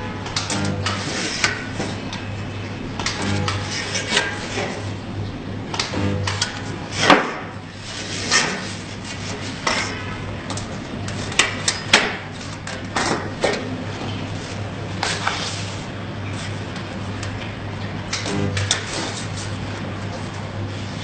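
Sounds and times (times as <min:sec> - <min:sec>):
machine low hum: 0:00.0 - 0:21.0.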